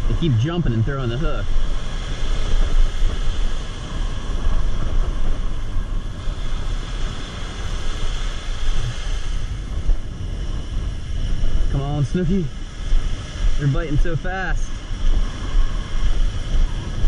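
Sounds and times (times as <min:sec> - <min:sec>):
surf breaking on beach: 0:00.0 - 0:17.0
wind rumble on microphone: 0:00.0 - 0:17.0.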